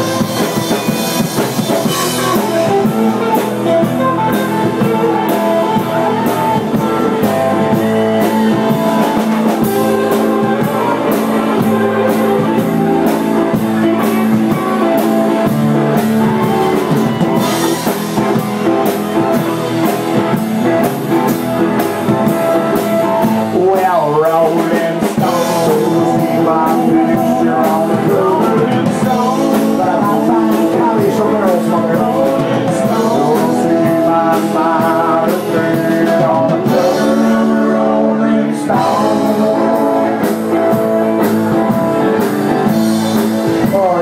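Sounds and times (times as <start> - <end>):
drums keeping steady beat: 0.0 - 44.0
live rock band playing: 0.0 - 44.0.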